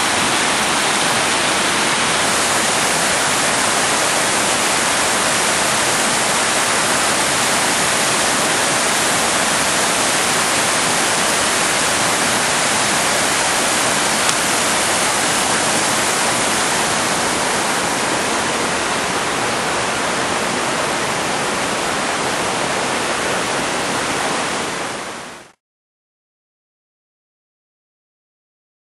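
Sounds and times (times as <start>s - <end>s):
waterfall rushing over rocks: 0.0s - 25.6s.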